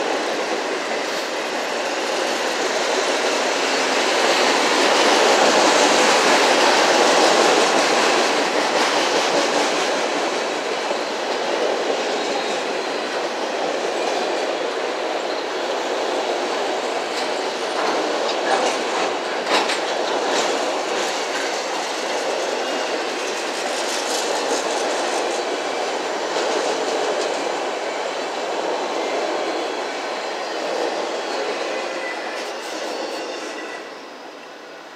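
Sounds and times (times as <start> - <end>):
steel wheels on rails: 0.0 - 34.8.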